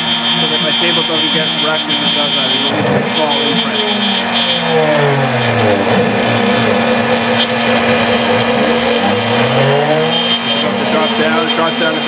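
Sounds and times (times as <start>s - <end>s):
router spindle cutting wood: 0.0s - 12.0s
stepper motors whining: 0.0s - 12.0s.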